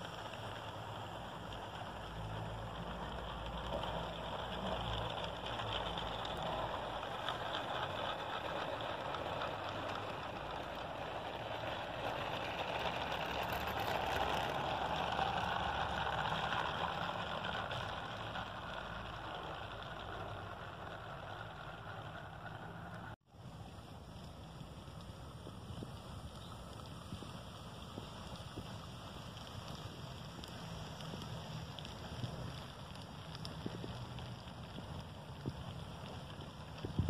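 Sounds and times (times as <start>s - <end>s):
model train cars rolling on track: 0.0s - 37.0s.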